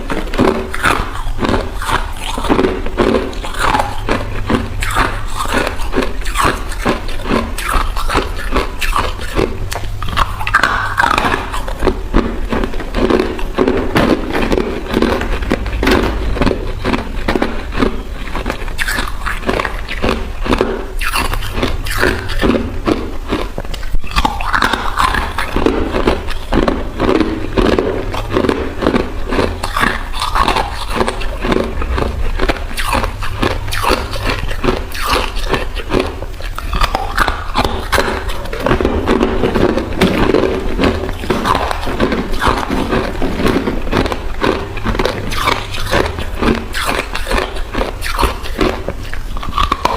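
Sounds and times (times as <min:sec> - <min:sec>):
ice being chewed: 0:00.0 - 0:49.9
low steady hum: 0:00.0 - 0:49.9.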